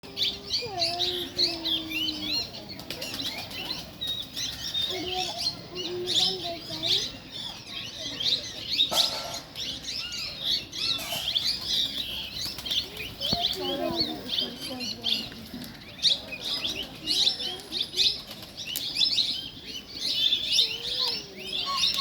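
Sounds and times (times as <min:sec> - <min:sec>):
birds chirping and chattering: 0:00.0 - 0:22.0.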